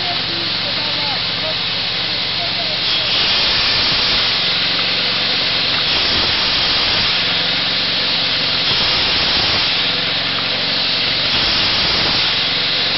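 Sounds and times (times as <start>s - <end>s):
chainsaw running: 0.0s - 12.9s.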